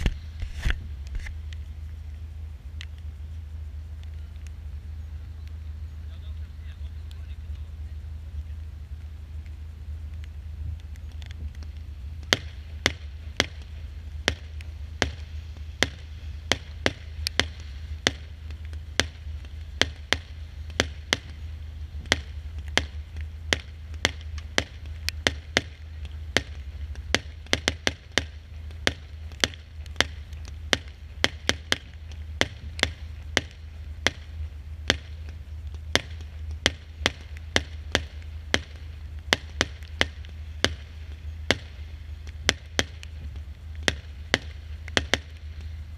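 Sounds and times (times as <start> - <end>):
fireworks popping and banging: 0.0 - 2.0, 5.4 - 45.9
steady low rumble: 0.0 - 45.9.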